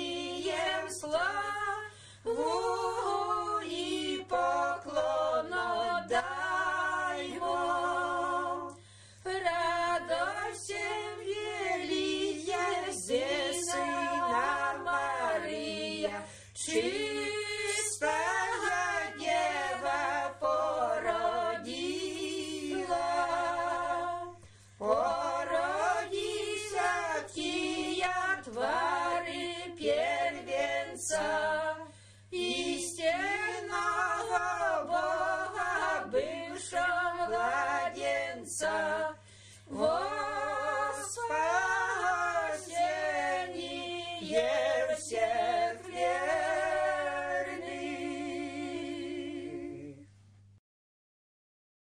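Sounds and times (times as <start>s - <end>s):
women's choir singing a cappella: 0.0s - 50.1s.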